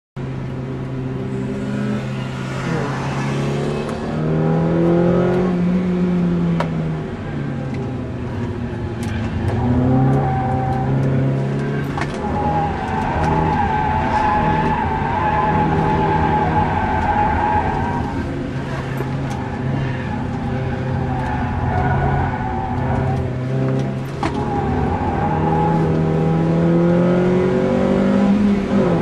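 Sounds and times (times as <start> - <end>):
car engine revving: 0.6 - 29.0.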